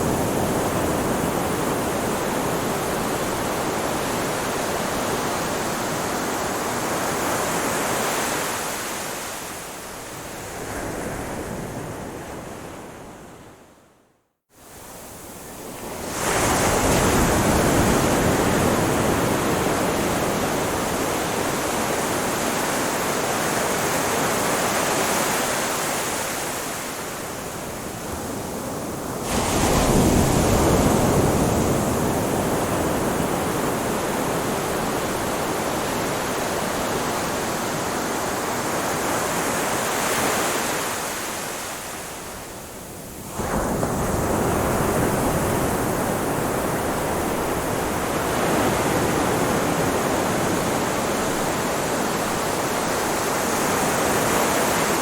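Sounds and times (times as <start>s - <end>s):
ocean waves on shore: 0.0s - 13.8s, 14.6s - 55.0s.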